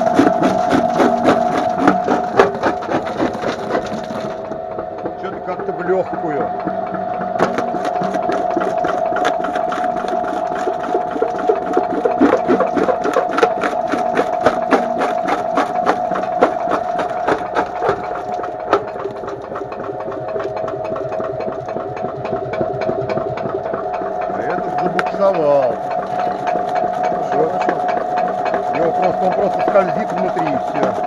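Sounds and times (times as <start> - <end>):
crusher jaw knocking and cracking: 0.0 - 5.3, 6.5 - 31.0
machine hum: 0.0 - 31.0.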